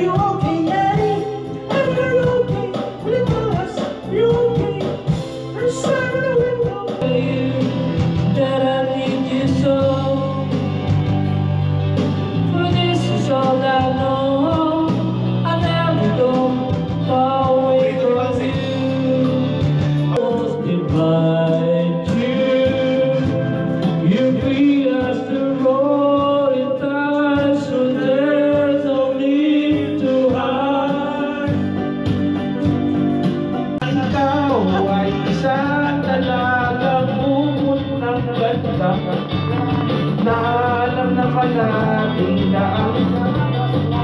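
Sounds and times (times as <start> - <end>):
band with guitar and bass: 0.0 - 44.0
person singing karaoke: 0.0 - 44.0.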